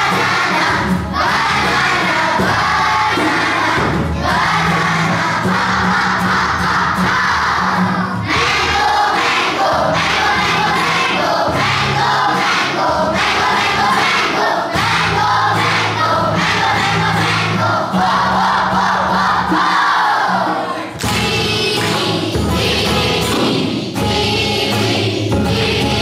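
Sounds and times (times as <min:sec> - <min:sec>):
children singing together: 0:00.0 - 0:26.0
music: 0:00.0 - 0:26.0.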